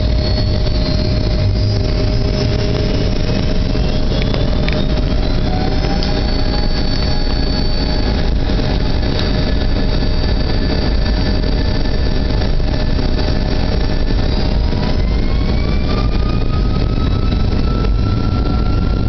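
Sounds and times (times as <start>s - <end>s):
jet engine noise with whine: 0.0s - 19.0s.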